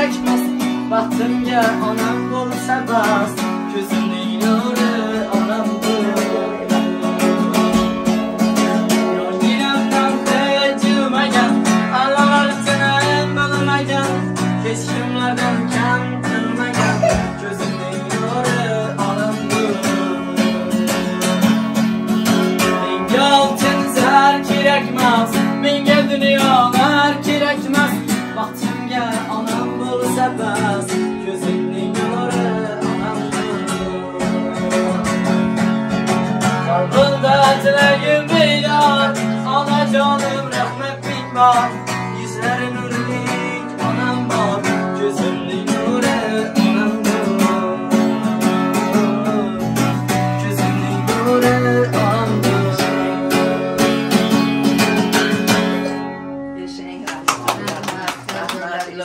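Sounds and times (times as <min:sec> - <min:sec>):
man singing: 0:00.0 - 0:56.2
acoustic guitar strumming: 0:00.0 - 0:59.0.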